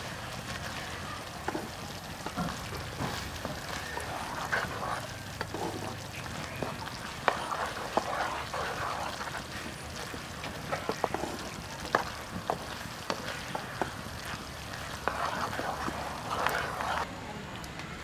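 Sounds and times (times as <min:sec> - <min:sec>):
sauce sizzling in a frying pan: 0:00.0 - 0:17.0
spatula scraping a pan: 0:01.4 - 0:17.1.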